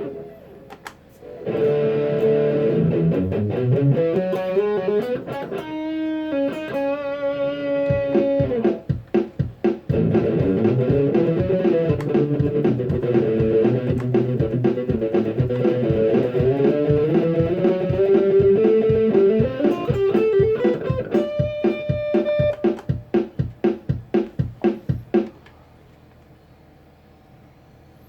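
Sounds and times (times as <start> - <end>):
electric guitar playing: 1.2 - 24.3.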